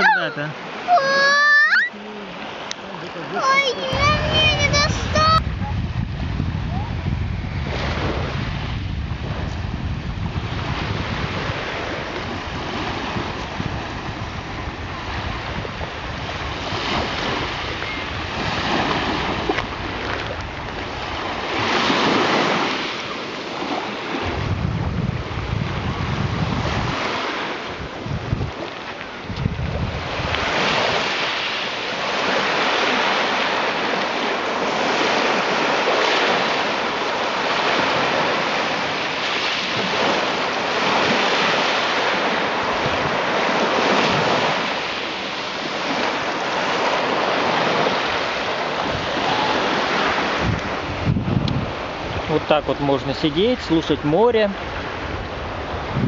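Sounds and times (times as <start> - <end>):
sea waves breaking on shore: 0.0 - 56.0
wind buffeting microphone: 3.4 - 56.0.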